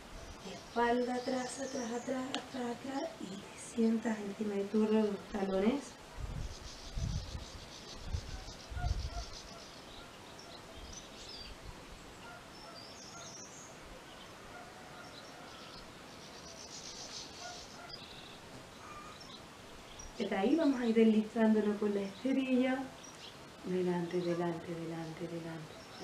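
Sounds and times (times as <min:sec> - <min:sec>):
birds chirping and twittering: 0:00.0 - 0:26.0
faint background hiss: 0:00.0 - 0:26.0.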